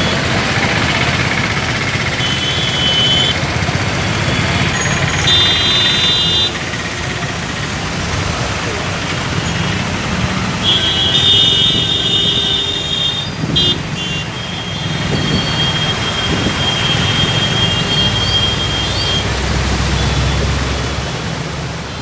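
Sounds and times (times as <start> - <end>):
vehicles running and passing: 0.0 - 22.0.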